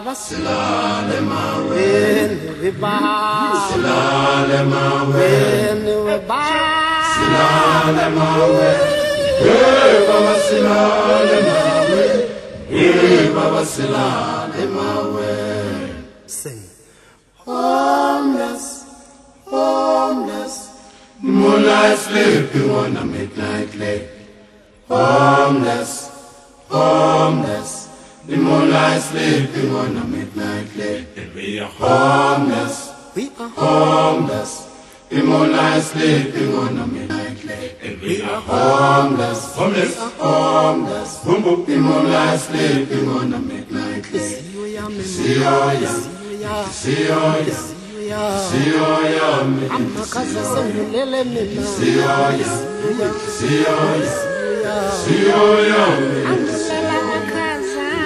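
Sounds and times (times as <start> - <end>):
choir chanting: 0.0 - 16.5, 17.4 - 58.0.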